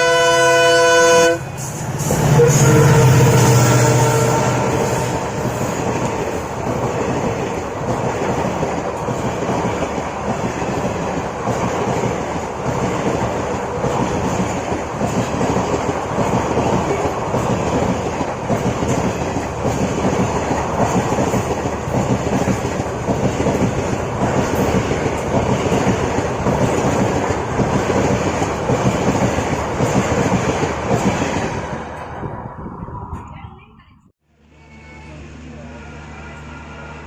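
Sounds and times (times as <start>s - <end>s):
train wheels rumbling on rails: 0.0s - 33.8s.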